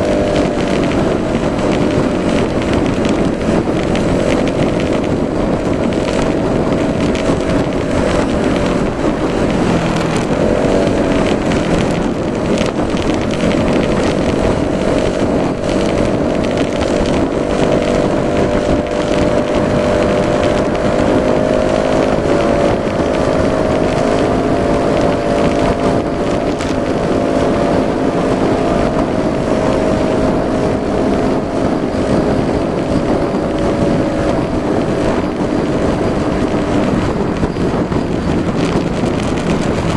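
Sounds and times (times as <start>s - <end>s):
scooter engine running: 0.0s - 39.9s
wind noise on microphone: 0.0s - 39.9s.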